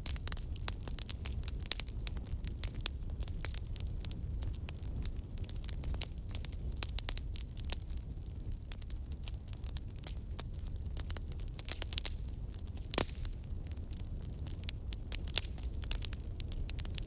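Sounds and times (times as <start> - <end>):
burning wood crackling and popping: 0.0 - 17.0
campfire flames rumbling: 0.0 - 17.0.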